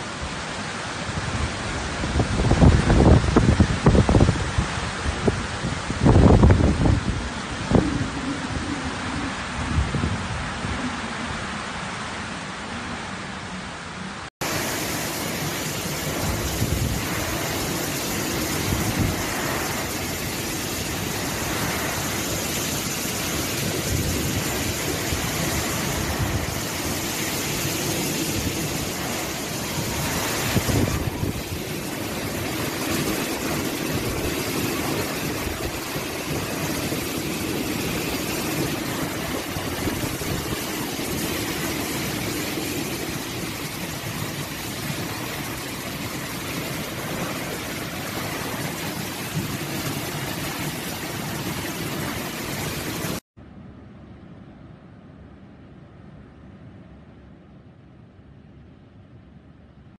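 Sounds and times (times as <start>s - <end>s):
heavy rain: 0.0s - 53.2s
storm wind: 0.0s - 59.9s.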